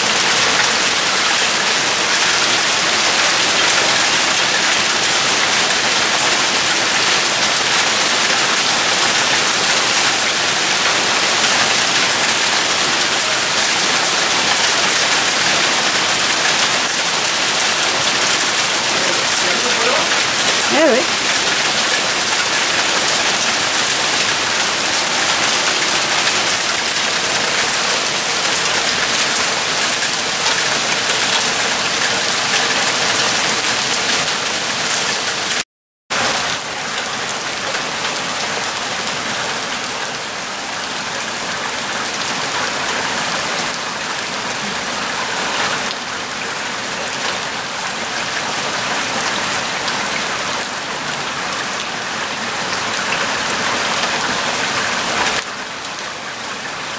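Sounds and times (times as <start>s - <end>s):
hail and rain falling: 0.0s - 56.9s.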